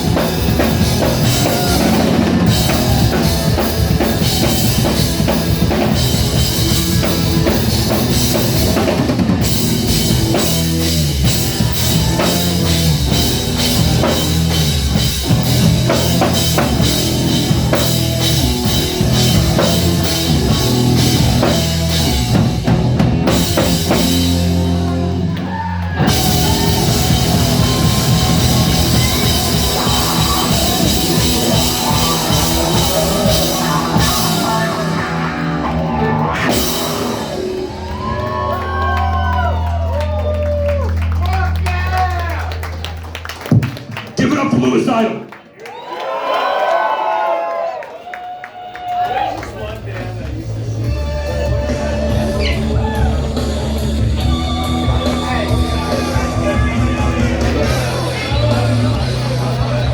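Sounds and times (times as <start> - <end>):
rock music with drums and guitar: 0.0 - 43.8, 50.2 - 59.9.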